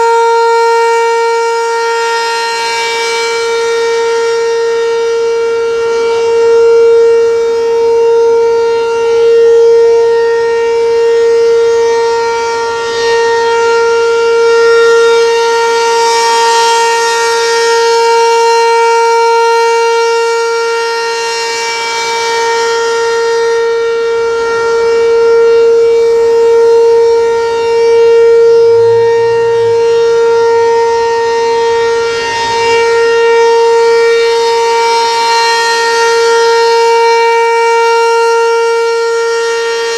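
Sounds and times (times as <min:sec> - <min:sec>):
tornado siren wailing: 0:00.0 - 0:39.9.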